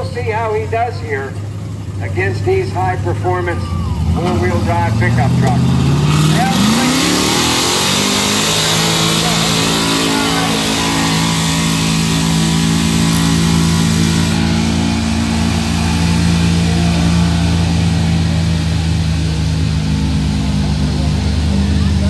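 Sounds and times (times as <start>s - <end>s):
engine at full throttle: 0.0s - 22.0s.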